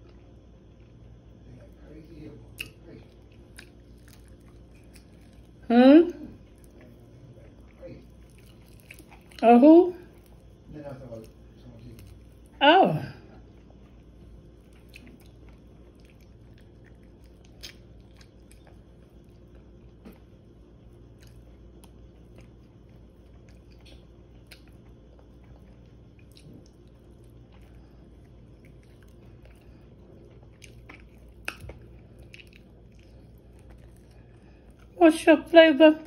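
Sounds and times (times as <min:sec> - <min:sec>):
chewing and crunching food: 0:00.0 - 0:36.0
steady low hum: 0:00.0 - 0:36.0.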